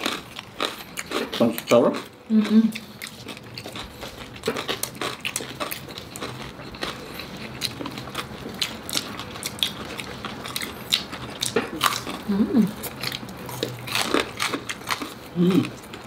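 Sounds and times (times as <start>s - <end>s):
chewing crispy pork crunching: 0.0s - 16.0s.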